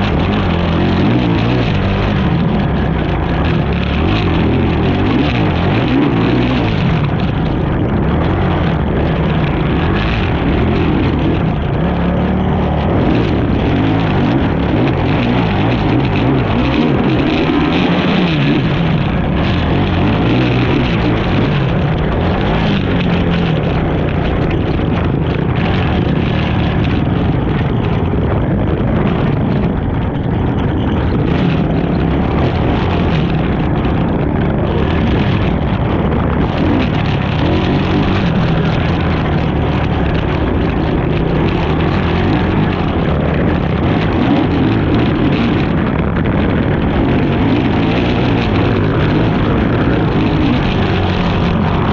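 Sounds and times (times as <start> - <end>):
atv engine revving: 0.0 - 51.9.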